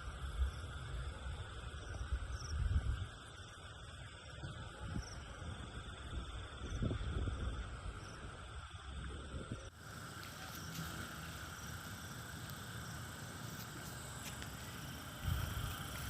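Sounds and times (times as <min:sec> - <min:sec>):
insect chorus drone: 0:00.0 - 0:16.0
wind rumble on microphone: 0:00.1 - 0:12.0, 0:14.0 - 0:16.0.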